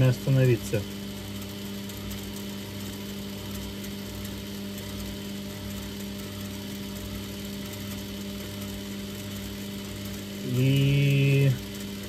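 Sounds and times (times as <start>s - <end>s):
lathe running with mechanical hum: 0.0s - 12.0s.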